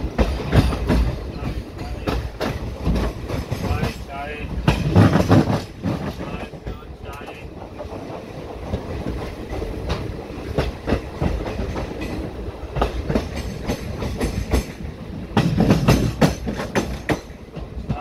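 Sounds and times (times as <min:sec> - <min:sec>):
train running rumble: 0:00.0 - 0:18.0
train wheels clattering on track: 0:00.0 - 0:18.0.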